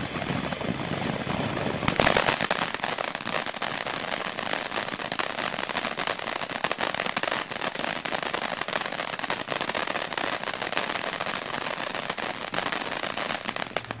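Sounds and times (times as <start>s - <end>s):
firework fountain hissing and crackling: 0.0s - 14.0s.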